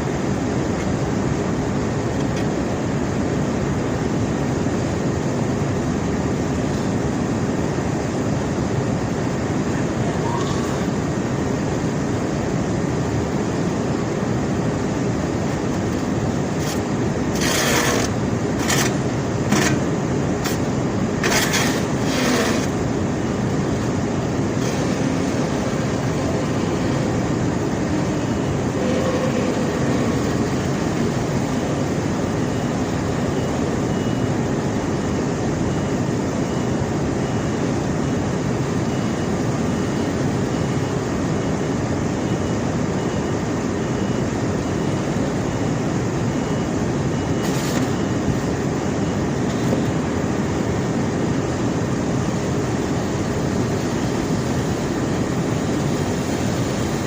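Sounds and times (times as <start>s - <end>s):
conveyor belt rumbling: 0.0s - 57.0s.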